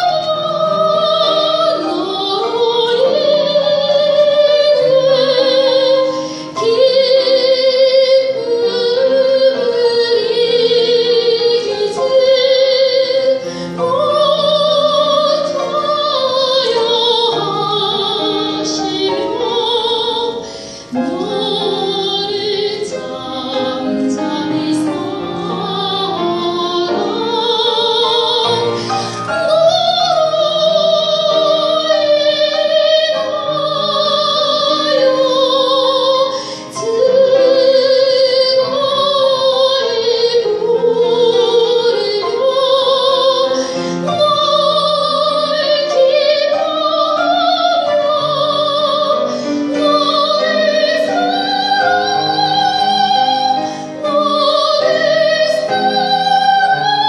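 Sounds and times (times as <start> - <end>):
grand piano: 0.0 - 57.0
soprano singing opera: 0.0 - 57.0.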